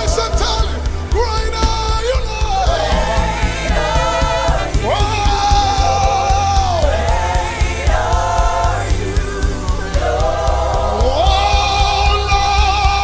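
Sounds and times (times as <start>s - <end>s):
band with bass and drums: 0.0s - 13.0s
singers in harmony: 0.0s - 13.0s.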